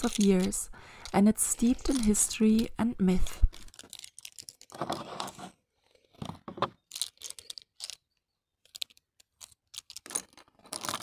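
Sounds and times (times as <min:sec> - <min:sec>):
wooden pencils clicking and rustling: 0:00.0 - 0:11.0.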